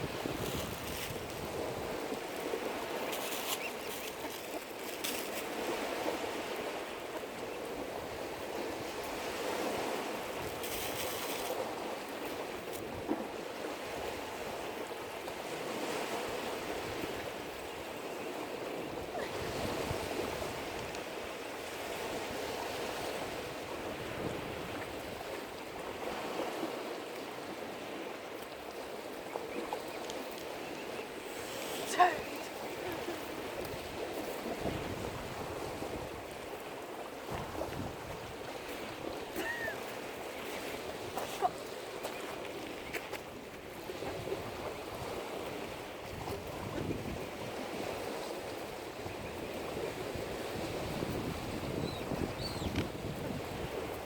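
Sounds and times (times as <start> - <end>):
lake waves lapping at shore: 0.0 - 54.0.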